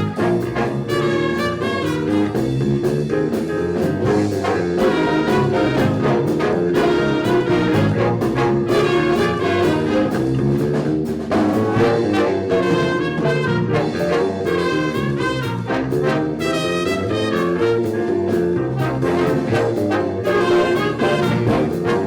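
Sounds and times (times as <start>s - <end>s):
steady drum beat: 0.0s - 22.0s
trombones and trumpets: 0.0s - 22.0s.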